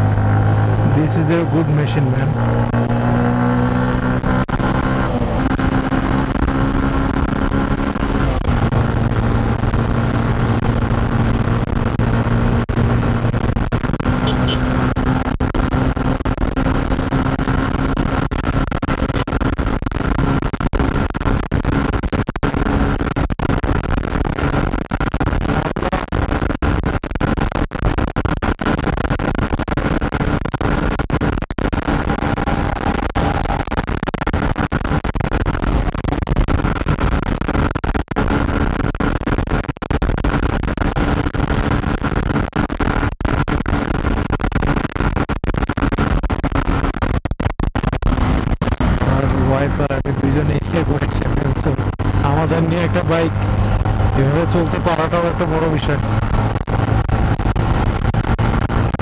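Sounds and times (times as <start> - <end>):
motorcycle engine cruising: 0.0 - 27.4, 28.8 - 39.2, 47.8 - 59.0.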